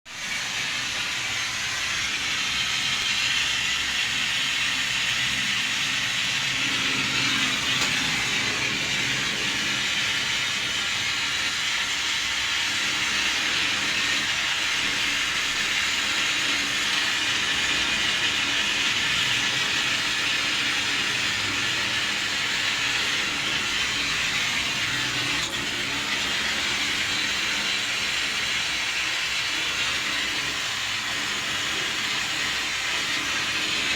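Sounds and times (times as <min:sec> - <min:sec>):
torch flame hissing: 0:00.1 - 0:33.9.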